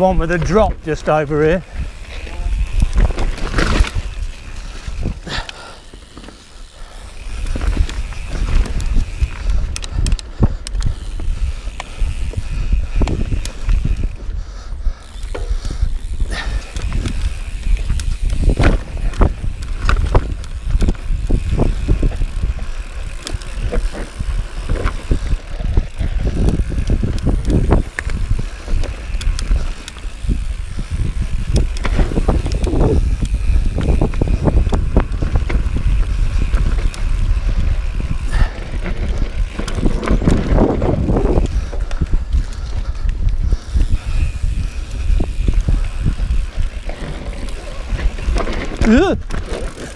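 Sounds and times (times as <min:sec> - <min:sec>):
wind rumble on microphone: 0:00.0 - 0:05.7, 0:06.6 - 0:49.9
bike knocking and rattling: 0:00.0 - 0:49.9
bike tyres rolling over dirt: 0:00.0 - 0:49.9.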